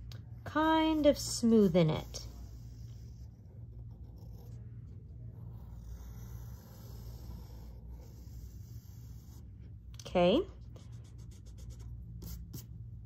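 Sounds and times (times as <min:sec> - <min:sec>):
steady low hum: 0:00.0 - 0:13.0
pencil scratching on paper: 0:00.6 - 0:09.8, 0:10.5 - 0:12.8.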